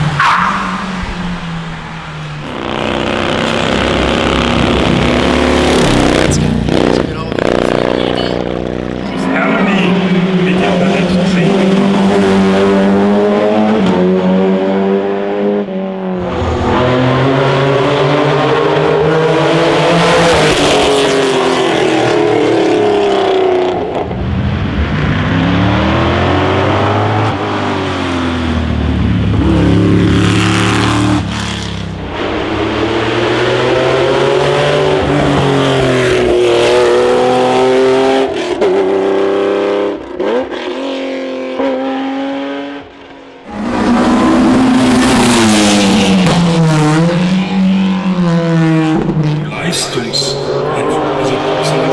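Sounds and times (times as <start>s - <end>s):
racing car engines revving: 0.0s - 51.9s.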